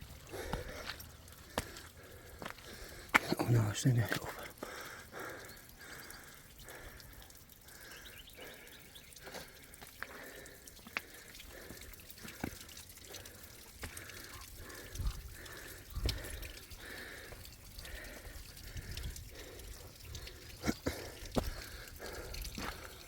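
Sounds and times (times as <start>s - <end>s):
water dripping: 0.0s - 23.0s.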